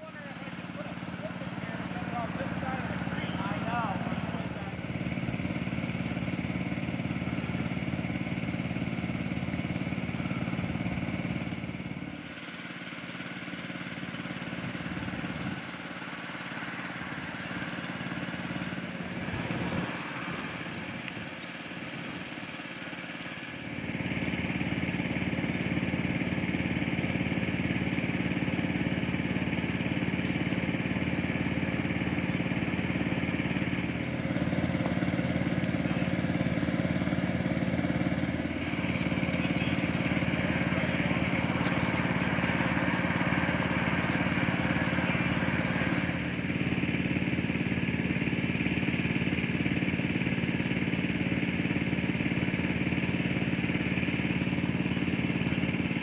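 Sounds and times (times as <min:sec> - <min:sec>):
motor engine droning: 0:00.0 - 0:56.0.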